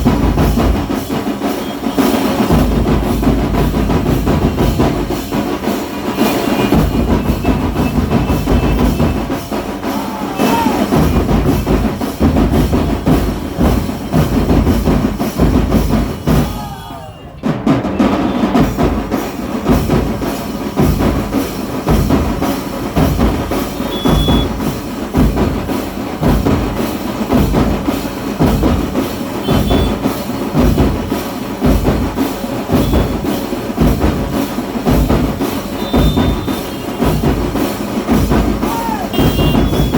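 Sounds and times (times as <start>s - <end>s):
music with drum beat: 0.0s - 39.9s.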